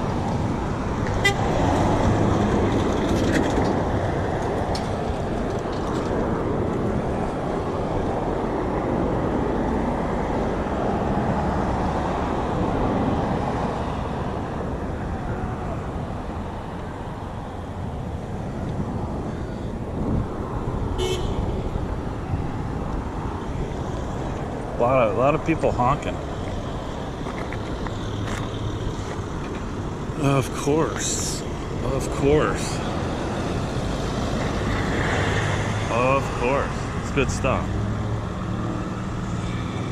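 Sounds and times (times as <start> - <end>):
road traffic passing: 0.0 - 39.9.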